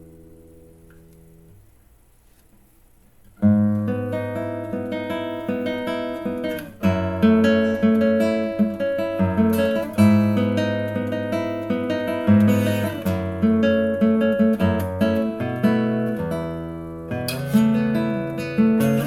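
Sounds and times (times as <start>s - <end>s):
acoustic guitar chords: 0.0s - 2.4s, 3.0s - 19.0s.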